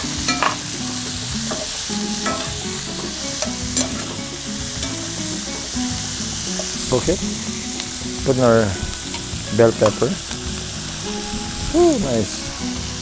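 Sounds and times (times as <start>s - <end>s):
metal spoon scraping pan: 0.0s - 0.8s, 1.4s - 11.6s
food sizzling in hot oil: 0.0s - 13.0s.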